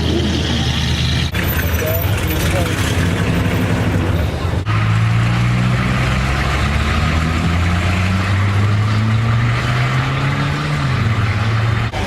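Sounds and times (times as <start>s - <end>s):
car engine running low revs: 0.0s - 12.0s.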